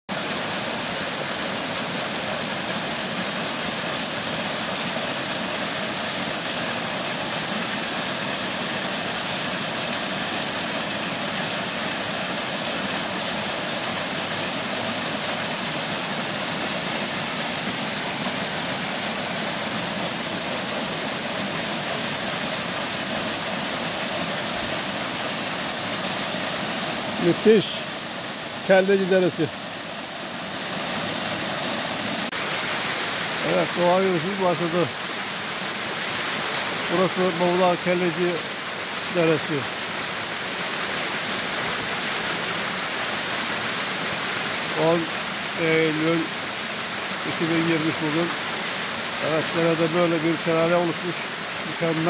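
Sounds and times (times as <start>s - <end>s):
waterfall splashing onto rocks: 0.1s - 52.0s.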